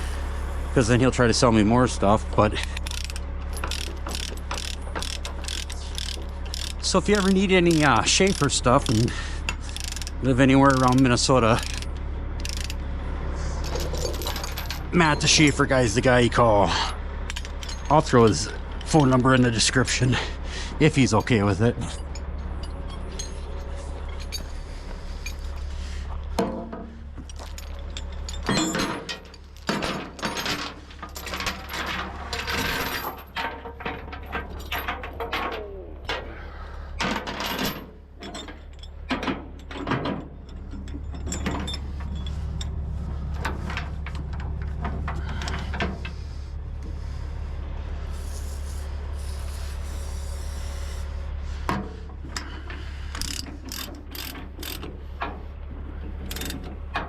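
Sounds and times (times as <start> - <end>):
steady low hum: 0.0 - 57.0
metal chains clanking: 1.9 - 36.3, 37.0 - 46.1, 52.4 - 55.2, 55.9 - 57.0.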